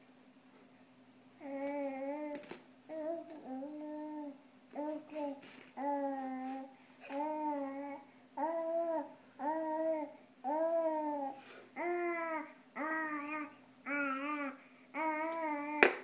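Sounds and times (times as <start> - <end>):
baby babbling: 1.4 - 15.9.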